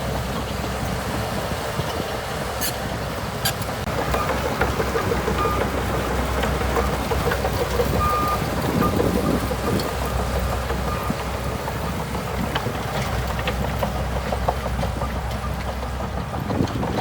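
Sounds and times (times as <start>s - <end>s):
bulldozer engine running: 0.0s - 17.0s
tracks clanking: 0.0s - 17.0s.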